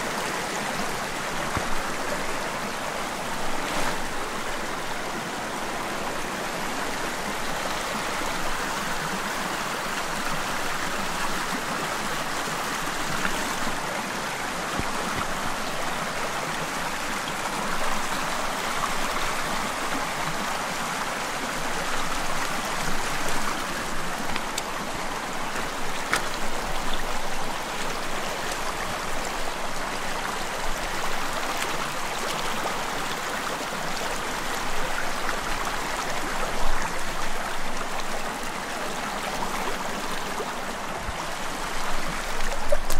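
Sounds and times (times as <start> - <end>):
stream water flowing over rocks: 0.0 - 42.9.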